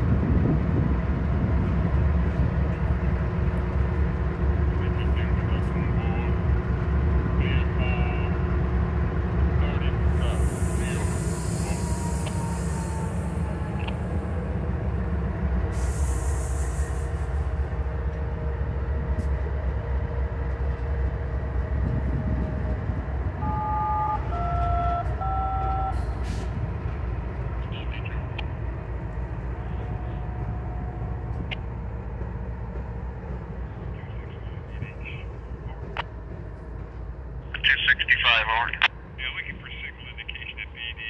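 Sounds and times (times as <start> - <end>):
diesel locomotive rumbling: 0.0 - 41.0.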